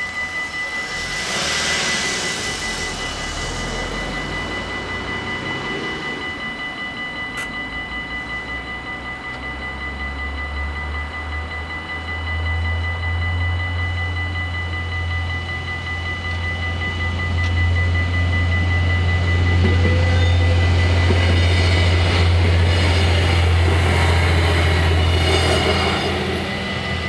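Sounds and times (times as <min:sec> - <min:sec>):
level crossing bells ringing: 0:00.0 - 0:27.0
railcar engine drone: 0:00.0 - 0:27.0.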